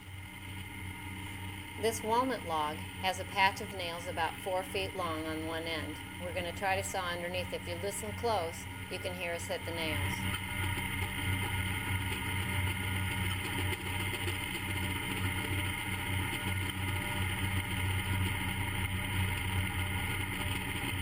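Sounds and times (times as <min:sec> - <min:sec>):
band sawmill running: 0:00.0 - 0:21.0.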